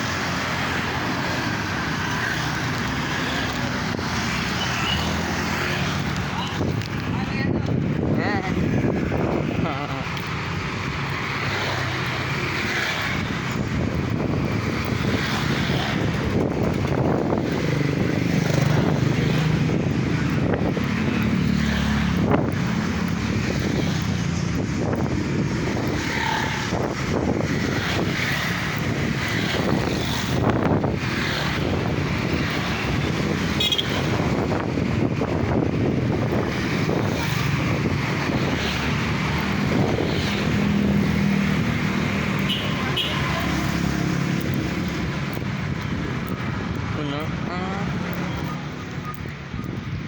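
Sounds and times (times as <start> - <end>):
road vehicle moving: 0.0 - 50.0
wind on microphone: 0.0 - 50.0.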